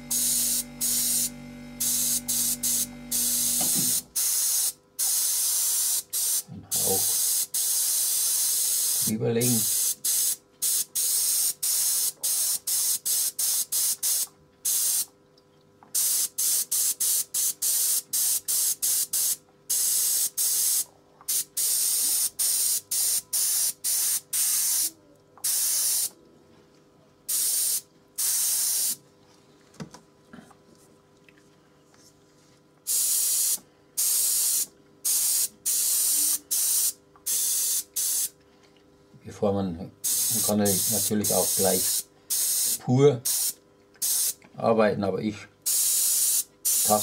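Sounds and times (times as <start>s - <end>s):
airbrush spraying hissing bursts: 0.0s - 15.1s, 16.0s - 26.1s, 27.3s - 29.0s, 32.9s - 38.3s, 40.0s - 44.4s, 45.7s - 47.0s.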